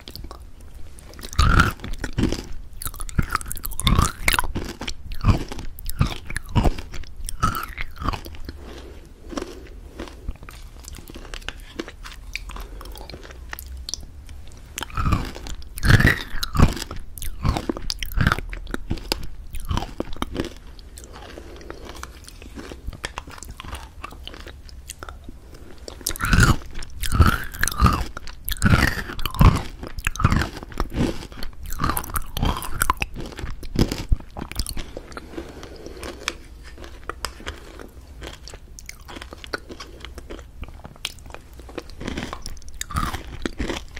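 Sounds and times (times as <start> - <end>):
close-up crunching and clicking: 0.0 - 43.9.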